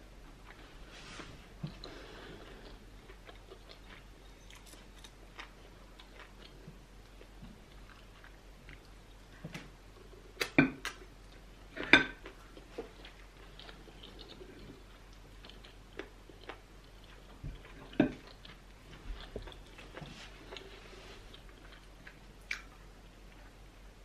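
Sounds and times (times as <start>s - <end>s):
person chewing food: 0.4s - 0.7s, 1.6s - 23.6s.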